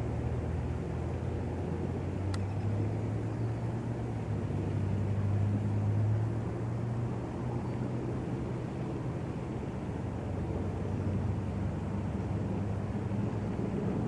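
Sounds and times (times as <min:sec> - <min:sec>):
distant motor drone: 0:00.0 - 0:14.0.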